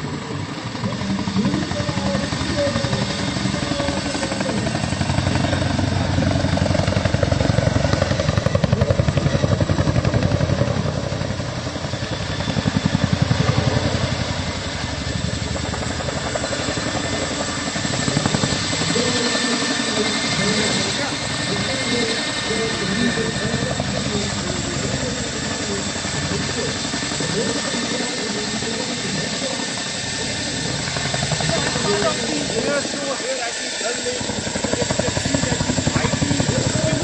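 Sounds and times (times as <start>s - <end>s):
helicopter rotor beating: 0.0s - 37.0s.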